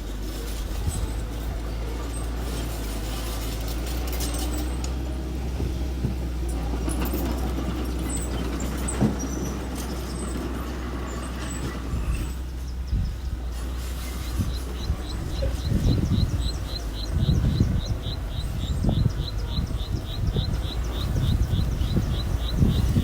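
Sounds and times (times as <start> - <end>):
construction machine engine running: 0.0 - 23.0.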